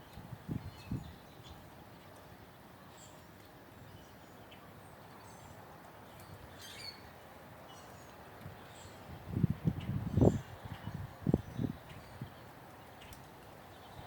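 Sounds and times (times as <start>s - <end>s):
steady outdoor hush: 0.0s - 14.0s.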